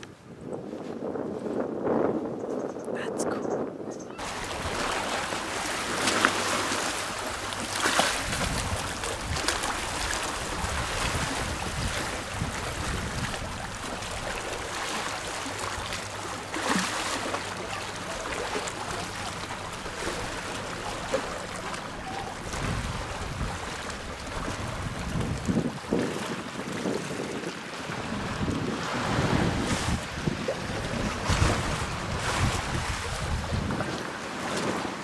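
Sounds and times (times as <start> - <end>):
wind rumbling on microphone: 0.0 - 16.2, 18.8 - 35.0
sea waves lapping on rocks: 4.2 - 35.0.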